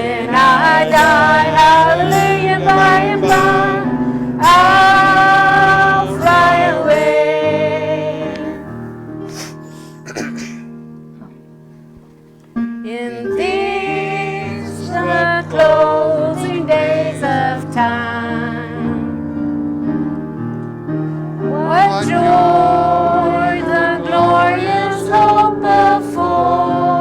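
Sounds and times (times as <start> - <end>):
church keyboard chords and melody: 0.0 - 27.0.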